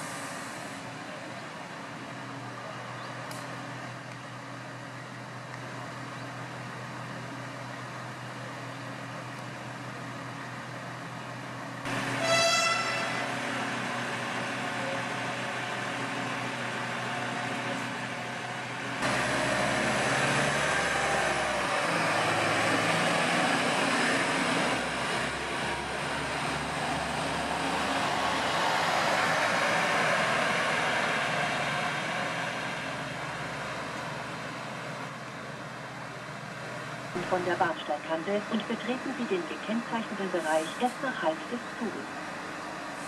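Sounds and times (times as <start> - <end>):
train engine drone: 0.0 - 43.0.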